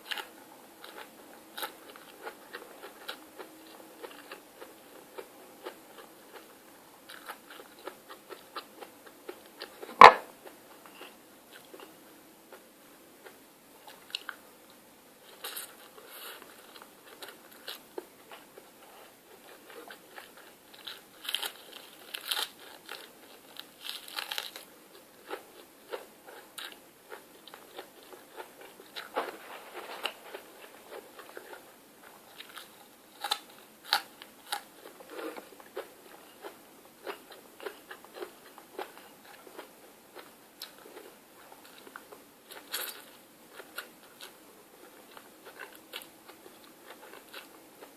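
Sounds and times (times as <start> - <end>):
crunchy chewing: 0.0 - 12.6, 15.2 - 47.9.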